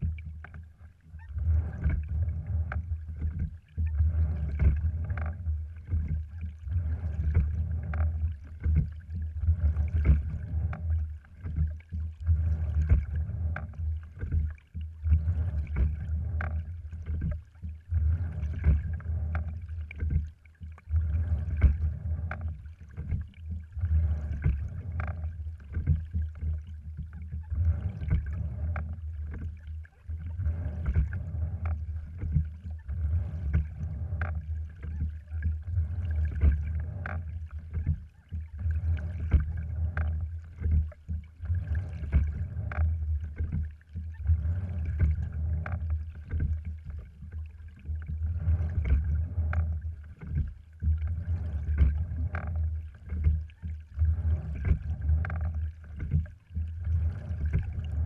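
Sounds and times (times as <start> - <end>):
rowing rig clicks and knocks: 0.0 - 58.0
steady low rumble: 0.0 - 58.0
water rushing along a hull: 0.0 - 58.0.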